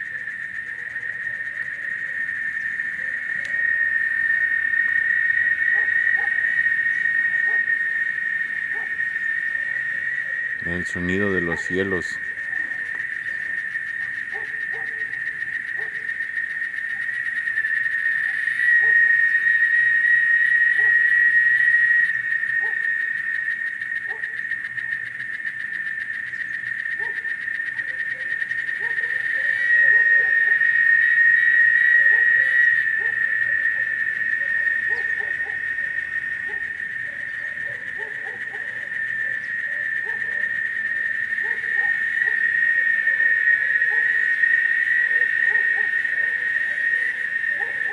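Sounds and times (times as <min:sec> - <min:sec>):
cicadas singing in chorus: 0:00.0 - 0:47.9.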